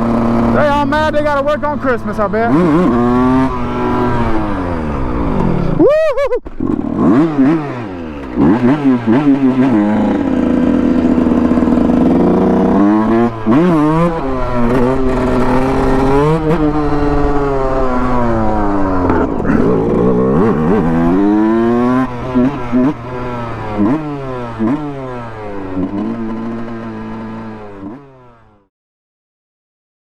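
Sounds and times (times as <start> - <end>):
dirt bike engine revving: 0.0 - 28.7.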